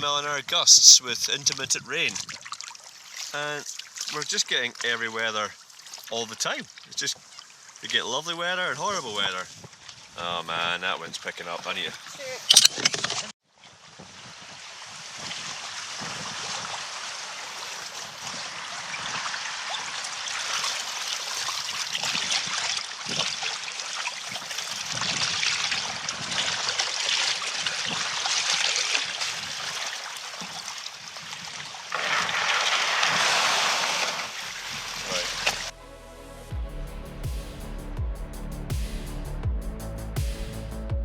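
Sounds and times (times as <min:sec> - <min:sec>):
water rushing around a canoe: 0:00.0 - 0:35.8.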